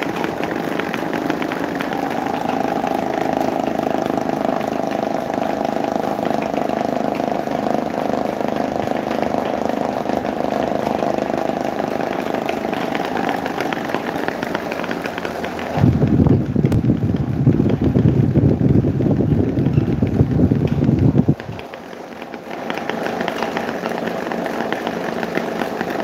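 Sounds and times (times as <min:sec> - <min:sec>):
airflow buffeting microphone: 0:00.0 - 0:26.0
electric fans whirring: 0:00.0 - 0:26.0
fan motor hum: 0:00.0 - 0:26.0.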